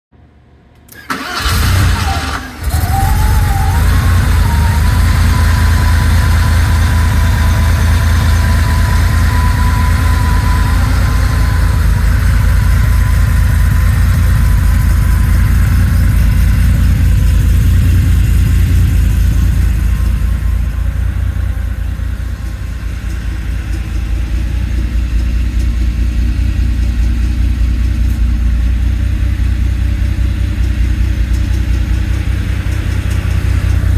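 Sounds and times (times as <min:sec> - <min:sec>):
car engine starting and idling: 0:00.4 - 0:33.9
thin steady whine: 0:02.0 - 0:33.9.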